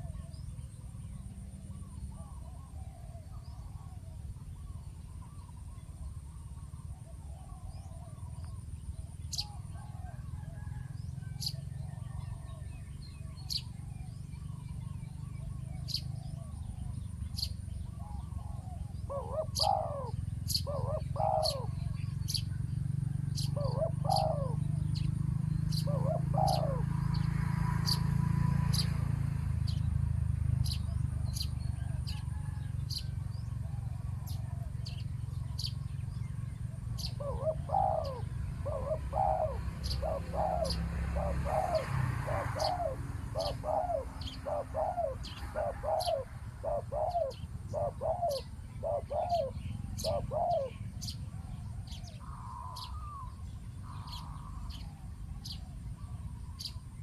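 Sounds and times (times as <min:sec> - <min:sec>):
doves cooing: 0:01.3 - 0:14.4, 0:15.3 - 0:29.0, 0:30.4 - 0:57.0.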